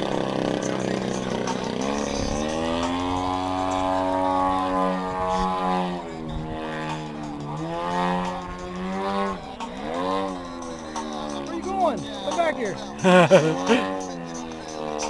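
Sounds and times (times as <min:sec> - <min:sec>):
model airplane engine and propeller: 0:00.0 - 0:15.0.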